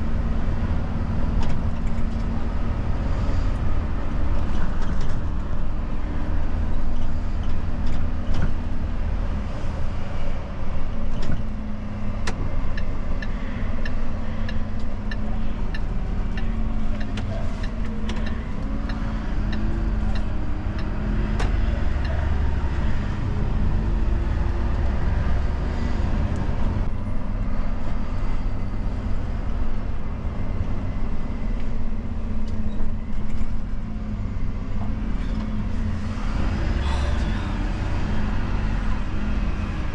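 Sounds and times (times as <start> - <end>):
truck diesel engine rumble: 0.0 - 39.9.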